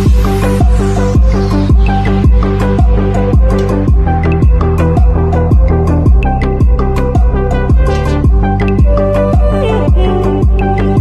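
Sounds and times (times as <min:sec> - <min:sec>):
electronic kick drum: 0:00.0 - 0:11.0.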